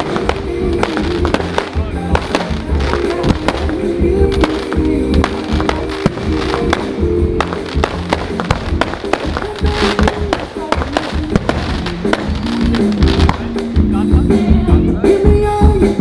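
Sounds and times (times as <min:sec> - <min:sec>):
fireworks bangs and crackles: 0:00.0 - 0:14.6
music over loudspeakers: 0:00.0 - 0:16.0.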